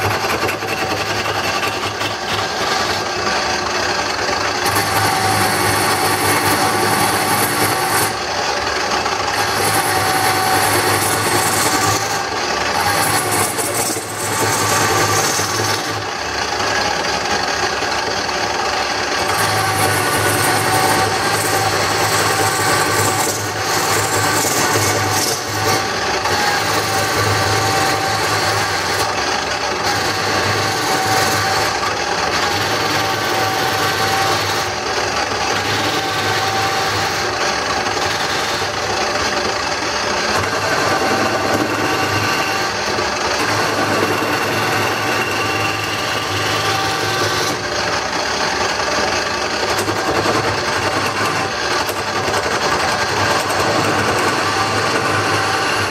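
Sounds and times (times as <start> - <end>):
turning tool scraping wood: 0.0 - 55.9
wood lathe motor hum: 0.0 - 55.9.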